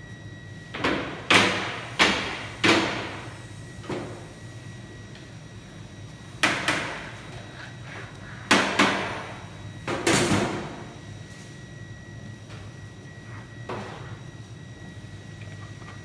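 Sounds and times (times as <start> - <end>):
faint steady hum: 0.0 - 16.0
thin steady whine: 0.0 - 16.0.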